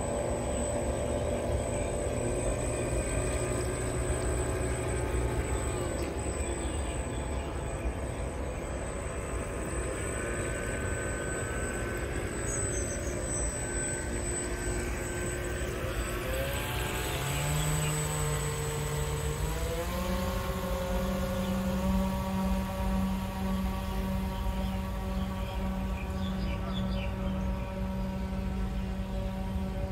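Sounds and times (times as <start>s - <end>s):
model boat motor whine: 0.0s - 29.9s.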